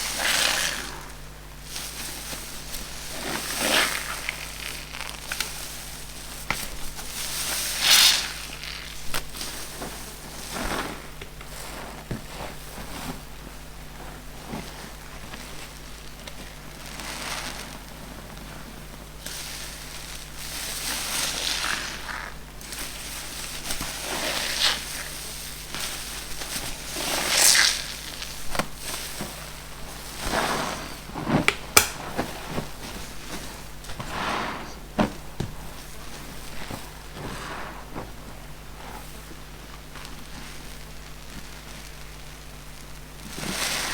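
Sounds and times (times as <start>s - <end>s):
foam sponge squishing: 0.0s - 41.9s, 43.2s - 43.9s.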